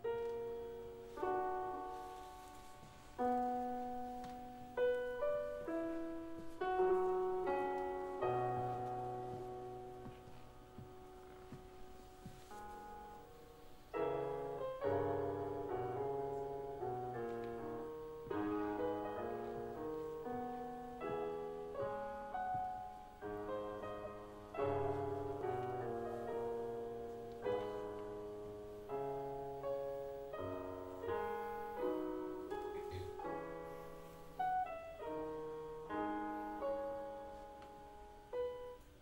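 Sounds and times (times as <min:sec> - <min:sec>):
slow piano chords: 0:00.0 - 0:39.0.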